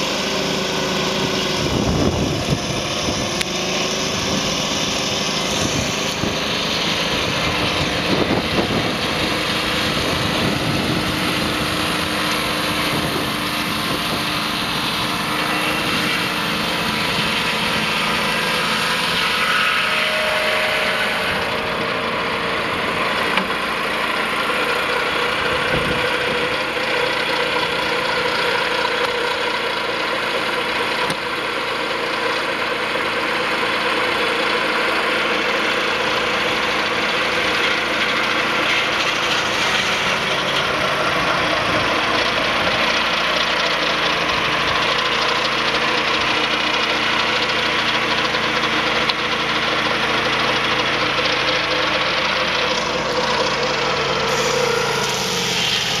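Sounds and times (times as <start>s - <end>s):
petrol engine running under load: 0.0s - 56.0s
saw blade cutting log: 0.0s - 56.0s.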